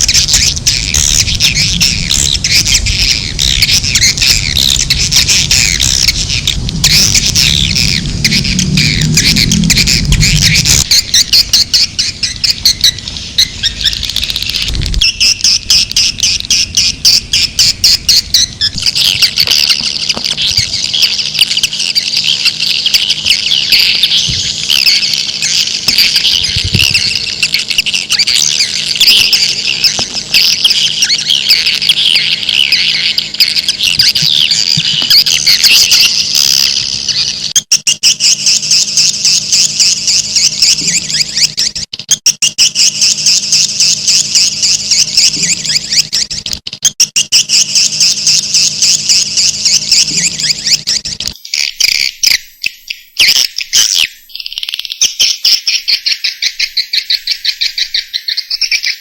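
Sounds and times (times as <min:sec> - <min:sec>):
low background hum: 0:00.0 - 0:58.0
high chirping bird twitters: 0:00.0 - 0:59.0.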